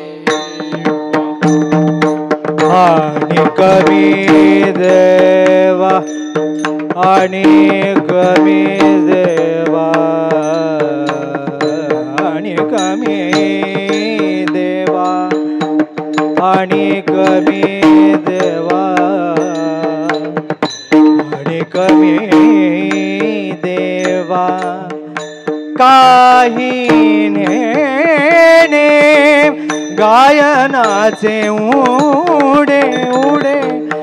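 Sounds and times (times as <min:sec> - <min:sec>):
percussion beat: 0:00.0 - 0:34.0
person singing devotional song: 0:00.0 - 0:34.0.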